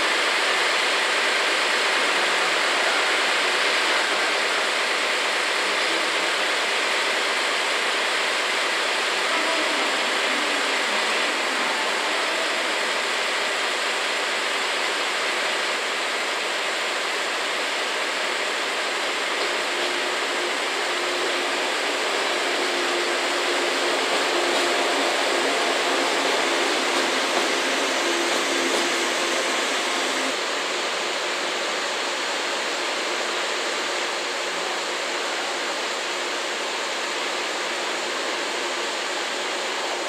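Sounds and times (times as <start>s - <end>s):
train rushing along track: 0.0s - 40.0s.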